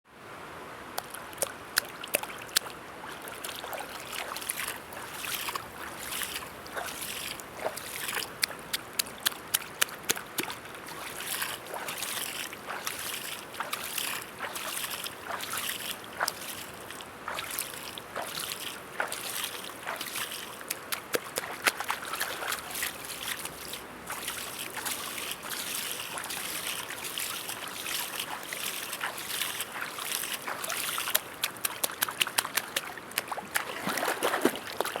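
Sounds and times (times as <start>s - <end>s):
river water rushing: 0.4s - 35.0s
small splashes and drips: 1.0s - 35.0s.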